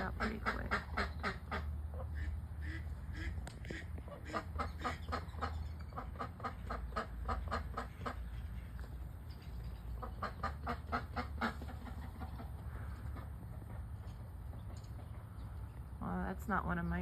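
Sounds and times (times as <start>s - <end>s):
ducks quacking: 0.0s - 14.3s.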